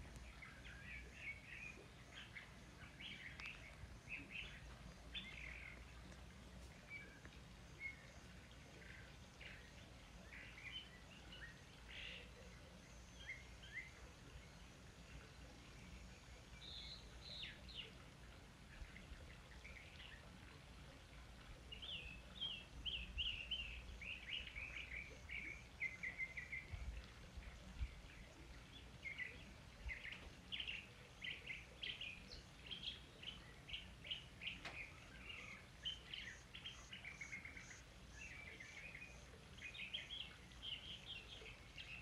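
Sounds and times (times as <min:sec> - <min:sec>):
wild birds chirping: 0:00.0 - 0:42.0.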